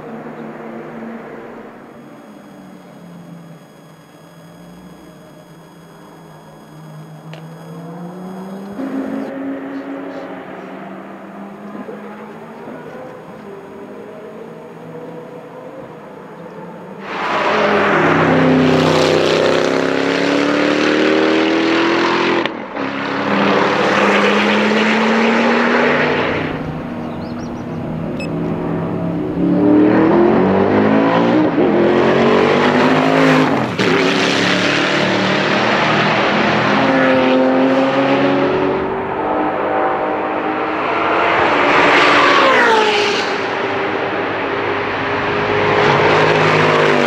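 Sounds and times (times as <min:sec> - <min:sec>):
car engine accelerating hard: 0:00.0 - 0:47.0.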